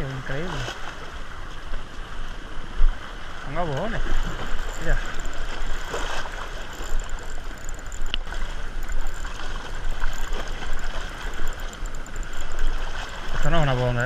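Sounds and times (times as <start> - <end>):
sea water splashing on rocks: 0.4 - 14.0.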